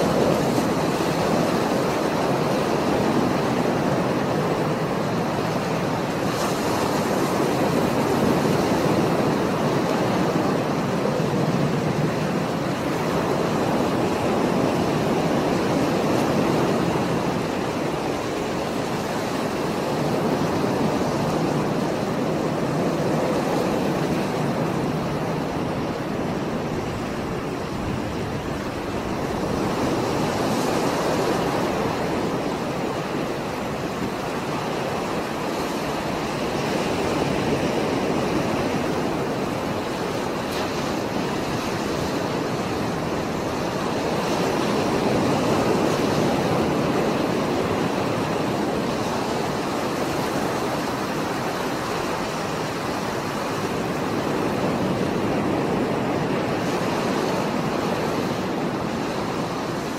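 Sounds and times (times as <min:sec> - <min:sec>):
sea surf breaking on rocks: 0:00.0 - 0:59.9.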